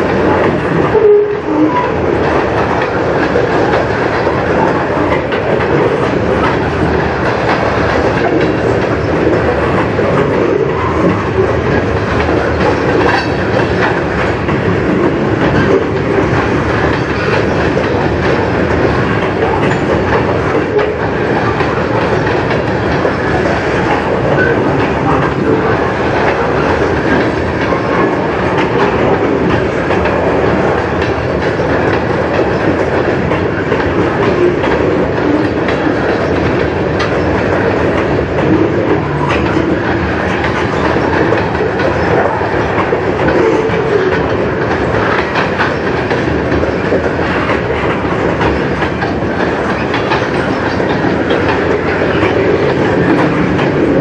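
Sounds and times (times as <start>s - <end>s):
train wheels running over rails: 0.0s - 54.0s.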